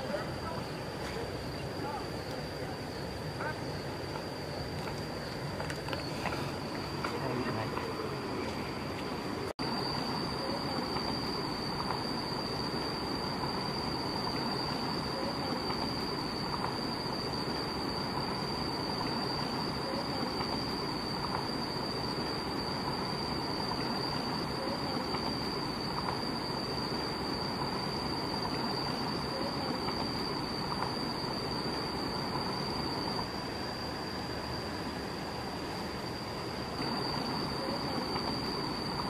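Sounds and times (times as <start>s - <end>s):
high-pitched whine: 0.0s - 39.0s.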